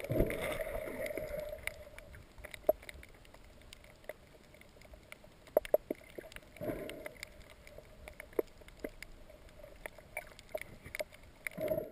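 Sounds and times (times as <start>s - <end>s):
muffled underwater water hiss: 0.0s - 11.9s.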